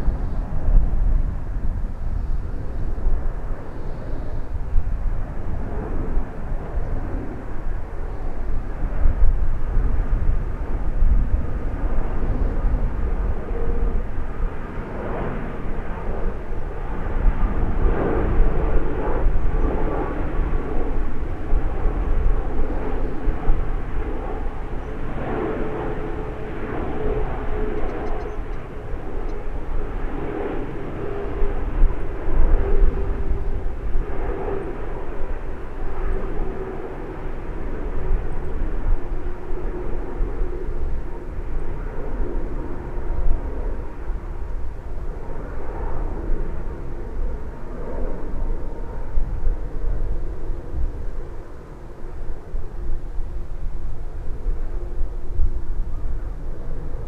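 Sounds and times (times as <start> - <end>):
jet airliner roar: 0.0 - 57.0.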